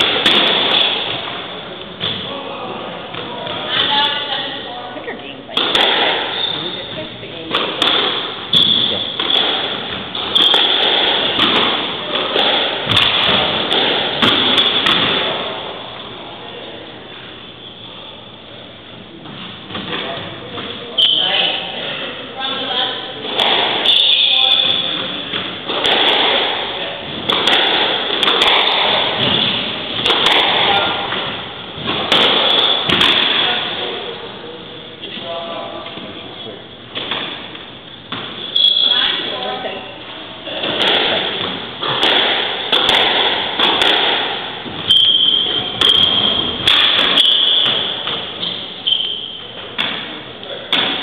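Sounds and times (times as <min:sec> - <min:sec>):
squash ball hitting rackets and walls: 0:00.0 - 0:04.6, 0:05.6 - 0:16.0, 0:19.1 - 0:21.7, 0:22.4 - 0:34.2, 0:36.9 - 0:39.7, 0:40.4 - 0:51.0.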